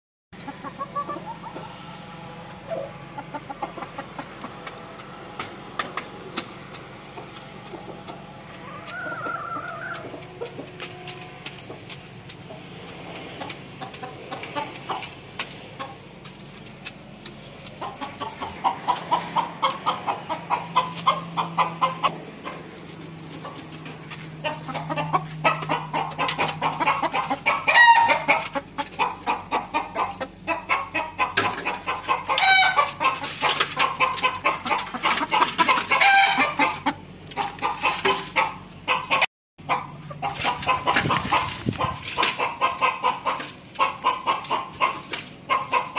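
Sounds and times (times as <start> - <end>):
chicken pitched calls: 0.4 - 5.0, 7.1 - 11.6, 17.6 - 45.9
chickens clucking: 0.4 - 45.9.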